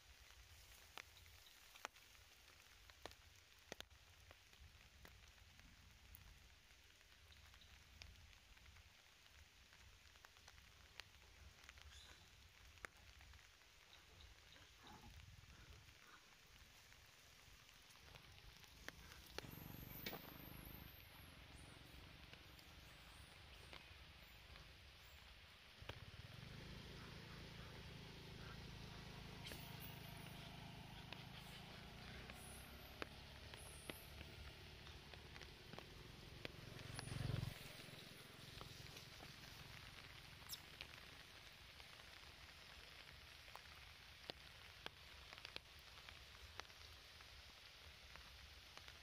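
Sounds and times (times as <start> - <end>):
faint low rumble: 0.0 - 47.4
faint outdoor hiss: 0.0 - 49.0
small clicks and ticks: 0.0 - 49.0.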